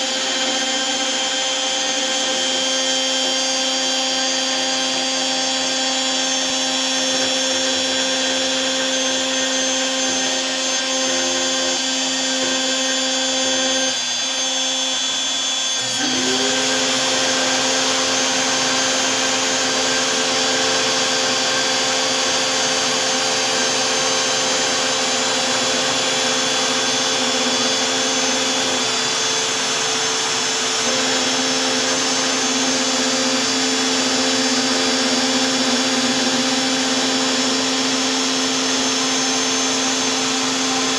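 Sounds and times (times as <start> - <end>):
dust vacuum whine: 0.0 - 40.9
trim router cutting plastic: 0.0 - 40.9.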